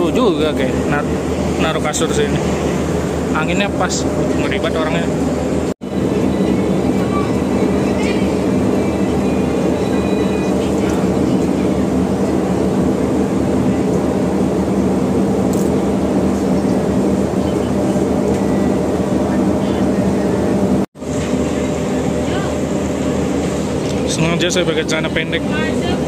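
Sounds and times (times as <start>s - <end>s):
ship engines droning: 0.0s - 26.0s.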